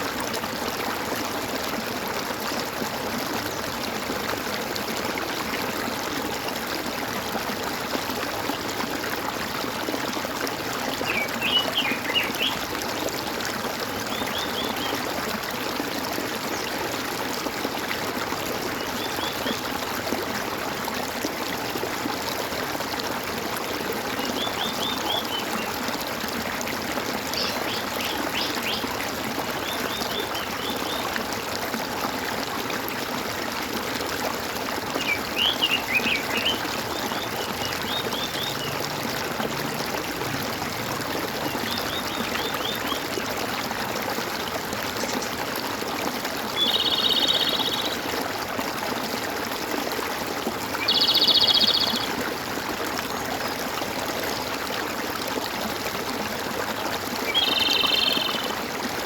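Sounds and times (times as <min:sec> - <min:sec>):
water gurgling and trickling: 0:00.0 - 0:59.0.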